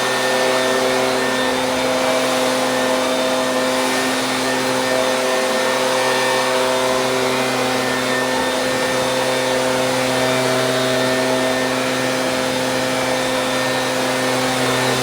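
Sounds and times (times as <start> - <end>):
leaf blower engine running: 0.0 - 15.0.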